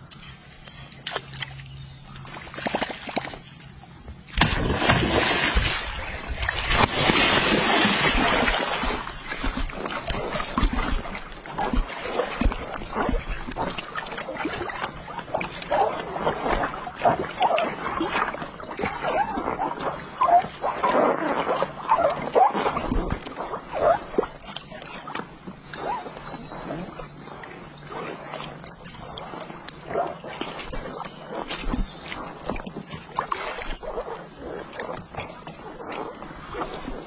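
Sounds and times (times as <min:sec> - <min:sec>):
fish splashing in water: 0:04.3 - 0:37.0.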